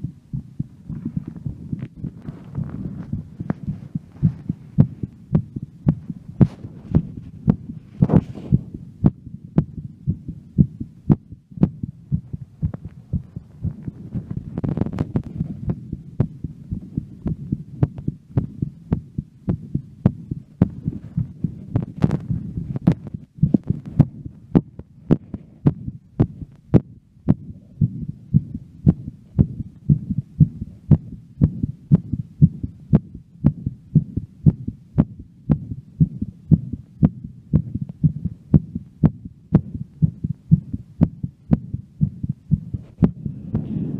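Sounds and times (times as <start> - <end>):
heartbeat thumps: 0.0 - 43.9.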